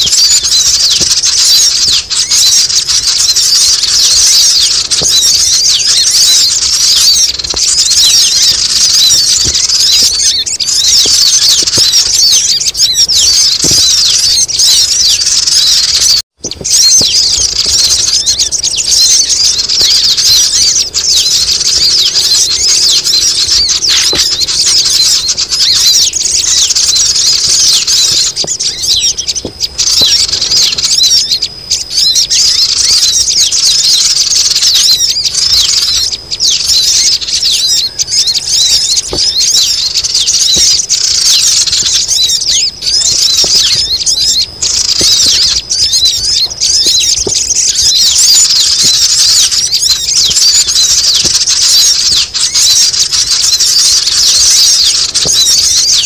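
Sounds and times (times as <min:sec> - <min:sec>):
flock of small birds chirping: 0:00.0 - 0:56.0.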